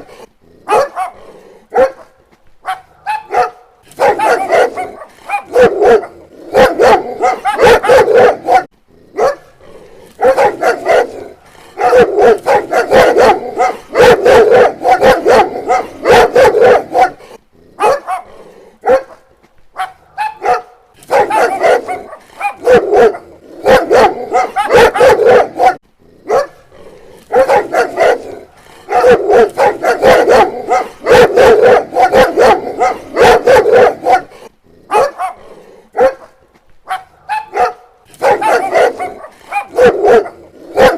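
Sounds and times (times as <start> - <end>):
dog barking: 0.0 - 9.6, 10.2 - 26.6, 27.3 - 40.9.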